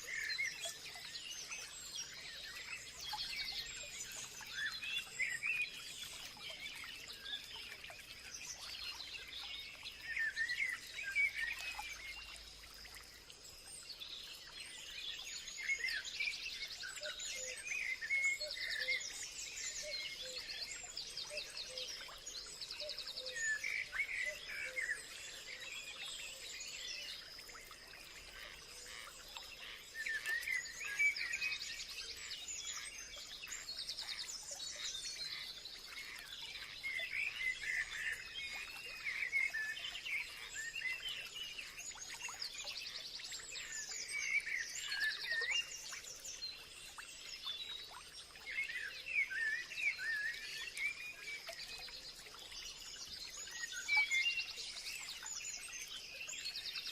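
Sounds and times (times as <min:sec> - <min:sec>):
songbirds chirping and singing: 0:00.0 - 0:56.9.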